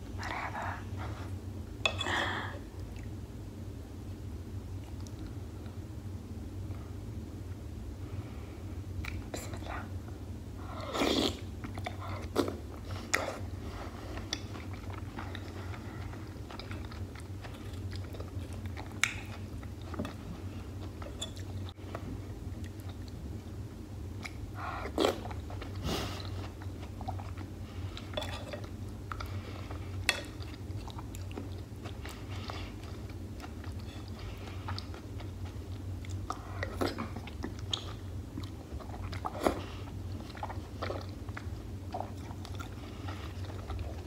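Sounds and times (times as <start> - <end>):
steady low hum: 0.0 - 44.0
chewing and wet mouth sounds: 0.2 - 3.2, 4.8 - 5.8, 9.0 - 10.0, 10.8 - 44.0.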